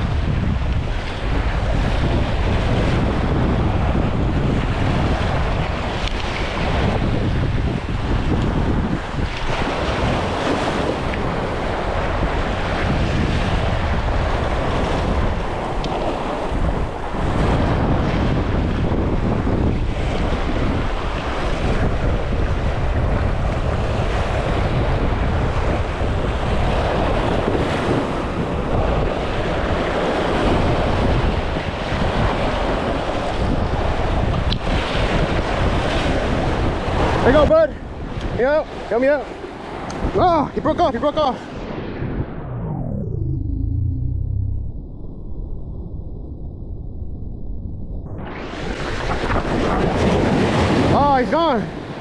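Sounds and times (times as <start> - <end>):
waves washing against jetty: 0.0 - 41.6, 48.2 - 52.0
wind buffeting microphone: 0.0 - 52.0.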